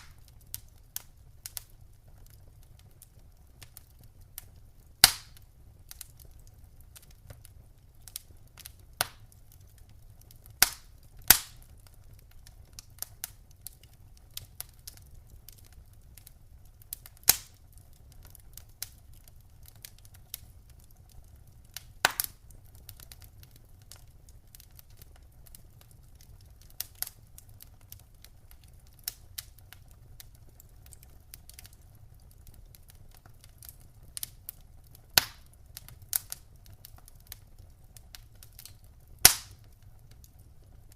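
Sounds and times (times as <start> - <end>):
low rumble of burning fire: 0.0 - 40.9
wood fire crackling and popping: 0.0 - 40.9.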